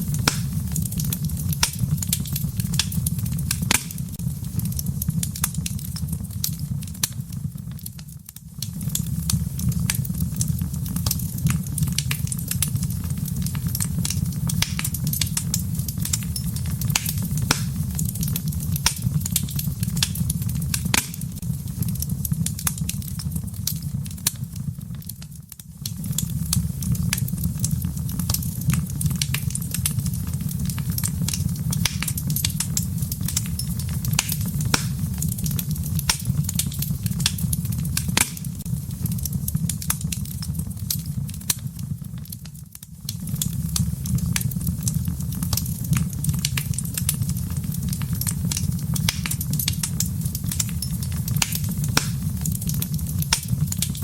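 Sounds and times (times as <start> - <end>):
burning logs crackling and popping: 0.0 - 54.0
fire rumbling in fireplace: 0.0 - 54.0.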